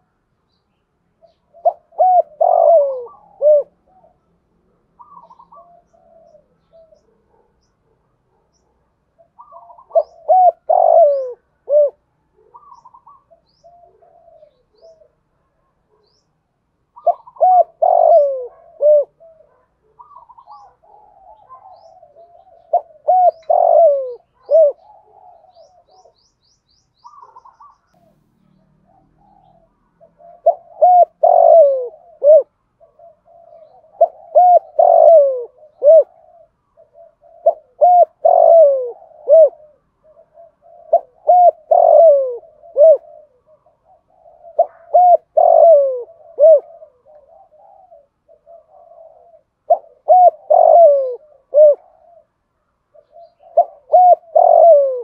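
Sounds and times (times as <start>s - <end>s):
dove cooing: 1.2s - 26.3s, 27.0s - 55.0s.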